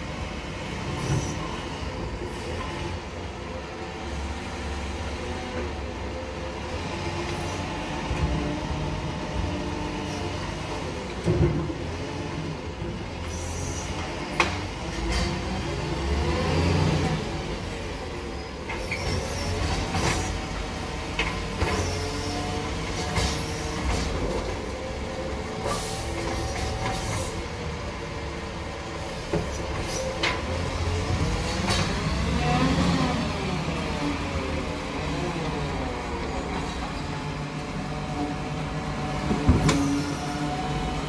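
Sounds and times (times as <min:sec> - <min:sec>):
garbage truck diesel engine: 0:00.0 - 0:41.0.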